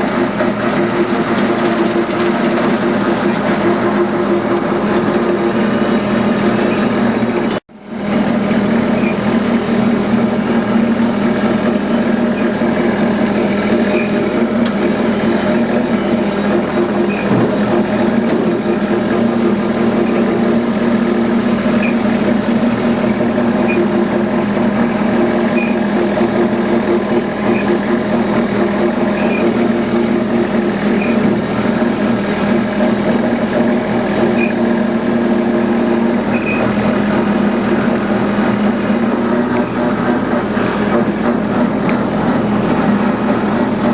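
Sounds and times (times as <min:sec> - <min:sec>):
mechanical motor hum: 0:00.0 - 0:43.9.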